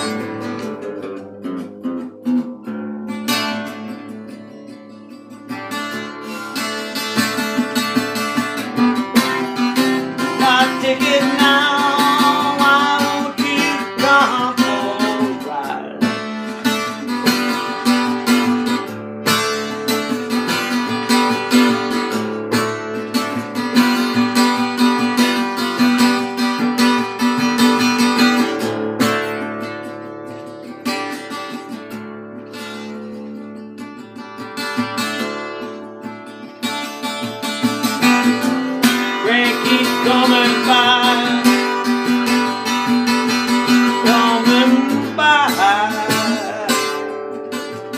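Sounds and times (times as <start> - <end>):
acoustic guitar strumming: 0.0 - 47.9.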